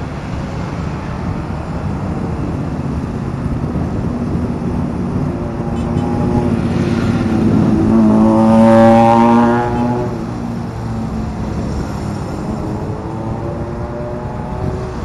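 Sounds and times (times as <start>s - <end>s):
motorcycle engine drone: 0.0s - 15.0s
road noise: 0.0s - 15.0s
wind noise: 0.0s - 15.0s.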